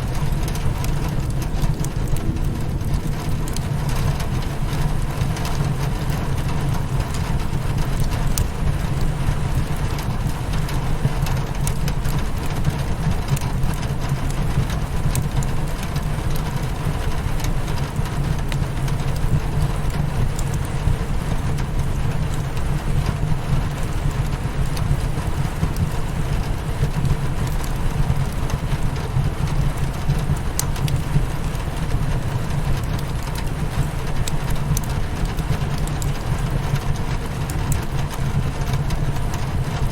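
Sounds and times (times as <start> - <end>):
fireplace crackling: 0.0 - 16.2, 18.4 - 39.9
rain hitting a windowpane: 0.0 - 39.9.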